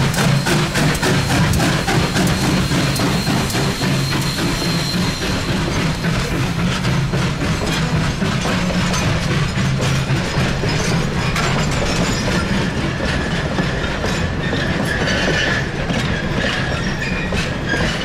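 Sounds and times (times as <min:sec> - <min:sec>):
high wheel squeal: 0:00.0 - 0:18.0
steady train rumble: 0:00.0 - 0:18.0
train wheels clicking over rail joints: 0:00.0 - 0:18.0.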